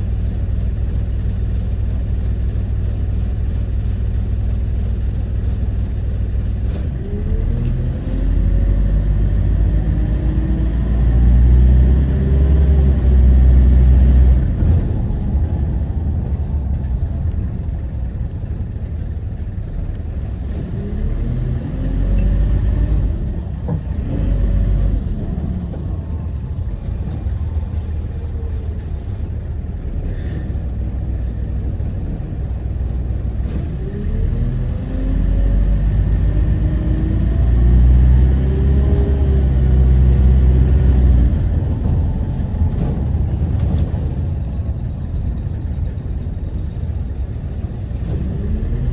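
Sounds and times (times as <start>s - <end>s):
bus diesel engine accelerating: 0.0s - 48.9s.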